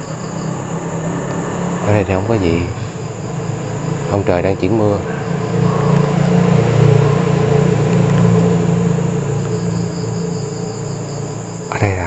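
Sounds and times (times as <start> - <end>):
low rumble: 0.0 - 11.8
crickets chirping: 0.0 - 12.0.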